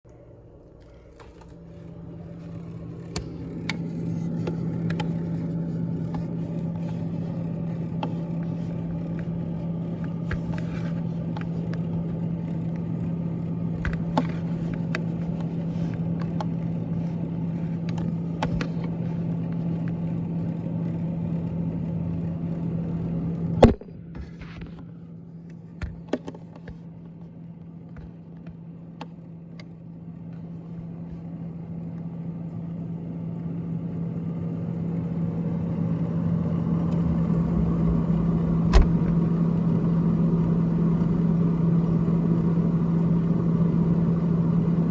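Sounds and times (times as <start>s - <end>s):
freezer fan humming: 0.1s - 44.9s.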